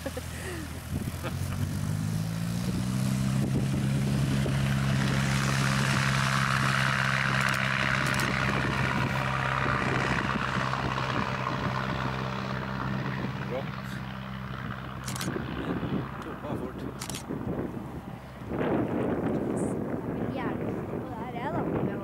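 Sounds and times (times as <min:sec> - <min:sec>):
propeller plane engine: 0:00.0 - 0:22.0.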